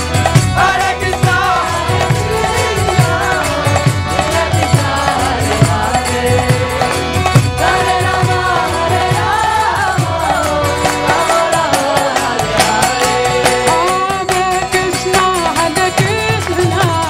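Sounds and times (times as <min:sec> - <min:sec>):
steady drone: 0:00.0 - 0:16.7
devotional chant singing: 0:00.0 - 0:17.0
regular drumbeat: 0:00.0 - 0:17.0.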